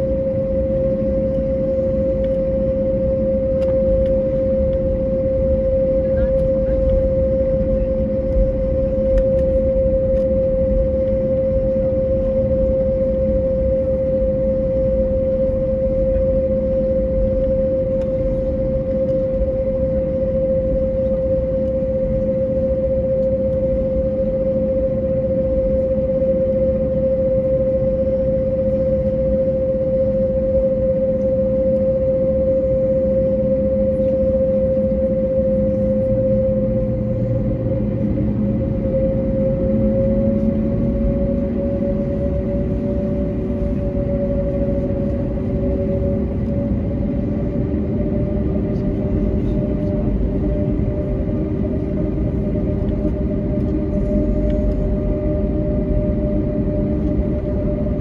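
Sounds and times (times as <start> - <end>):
airplane engines idling hum: 0.0 - 58.0.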